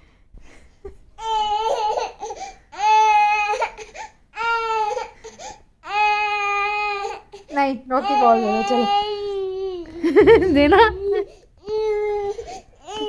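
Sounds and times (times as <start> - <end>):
toddler crying: 1.2 - 5.2, 5.8 - 7.4, 8.0 - 13.0.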